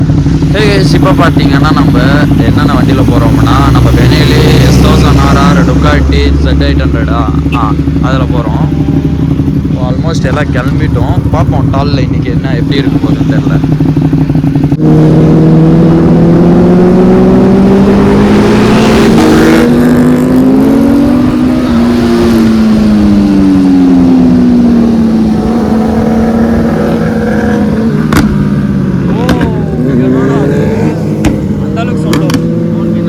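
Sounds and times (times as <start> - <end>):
another engine passing: 0.0 - 33.0
superbike engine cruising: 0.0 - 33.0.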